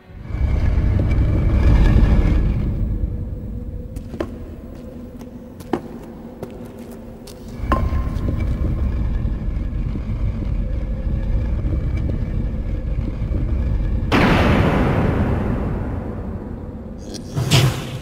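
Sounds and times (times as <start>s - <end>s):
deep rumbling drone: 0.0s - 6.4s, 7.0s - 18.0s.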